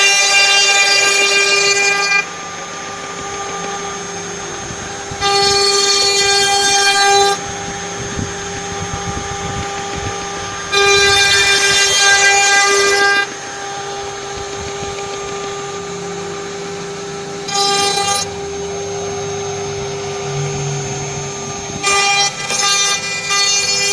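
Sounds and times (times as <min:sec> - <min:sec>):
router spindle whining: 0:00.0 - 0:23.9.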